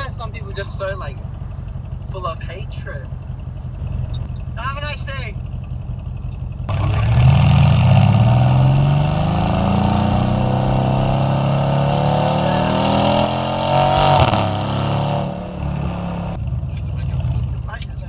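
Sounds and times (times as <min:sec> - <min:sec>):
car engine accelerating: 0:00.0 - 0:17.6.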